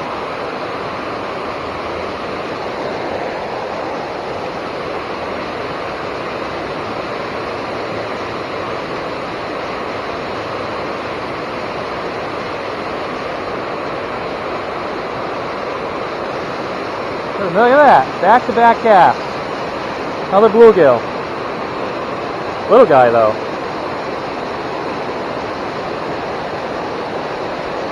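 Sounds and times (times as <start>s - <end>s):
water rushing over dam: 0.1s - 27.9s.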